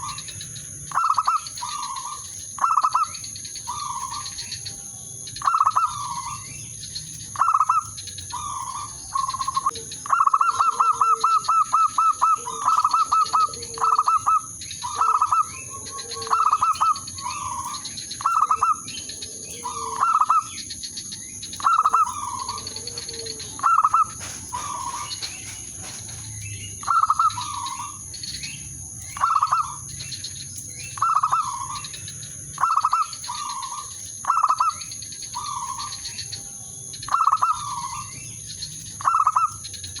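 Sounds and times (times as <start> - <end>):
dove cooing: 0.0 - 4.8, 5.4 - 6.5, 7.4 - 20.7, 21.6 - 29.9, 30.9 - 36.1, 37.1 - 38.3, 39.0 - 40.0.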